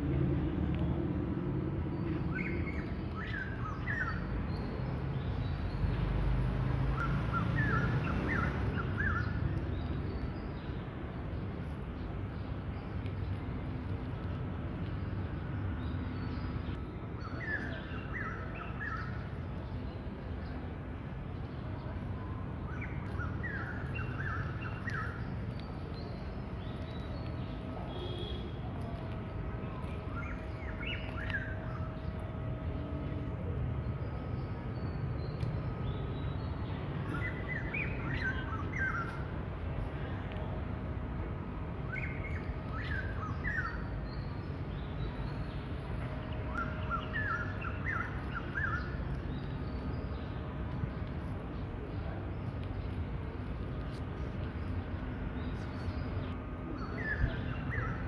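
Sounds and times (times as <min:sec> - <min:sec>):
low outdoor rumble: 0:00.0 - 0:58.0
small birds twittering: 0:01.8 - 0:20.7, 0:21.4 - 0:32.2, 0:33.8 - 0:40.2, 0:41.8 - 0:58.0.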